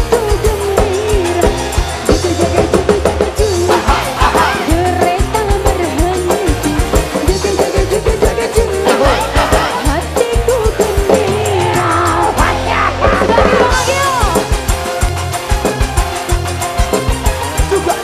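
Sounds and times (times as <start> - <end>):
fast drum beat: 0.0 - 18.0
steady bass line: 0.0 - 18.0.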